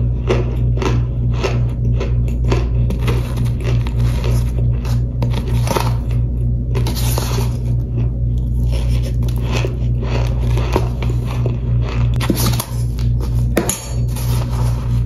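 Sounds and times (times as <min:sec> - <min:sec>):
crunching and chewing: 0:00.0 - 0:15.0
low electrical hum: 0:00.0 - 0:15.0.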